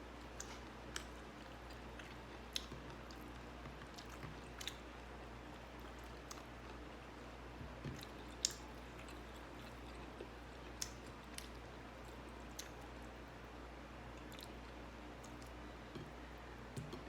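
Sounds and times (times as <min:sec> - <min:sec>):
person chewing food: 0:00.1 - 0:13.2, 0:14.1 - 0:17.0.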